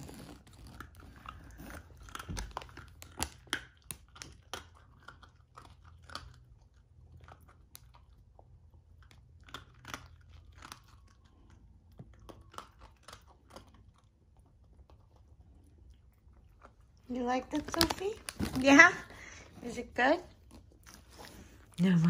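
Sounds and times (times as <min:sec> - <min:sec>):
puppy crunching hard biscuit: 0:00.0 - 0:22.0.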